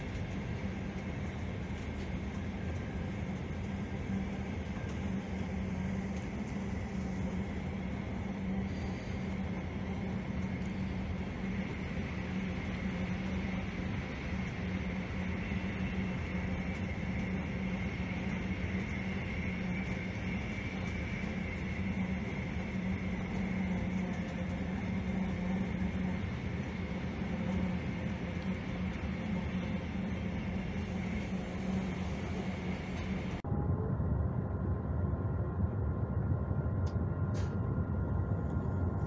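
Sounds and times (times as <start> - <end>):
train rail rumble: 0.0 - 33.4
faint high whine: 0.0 - 39.0
low hum: 0.0 - 39.0.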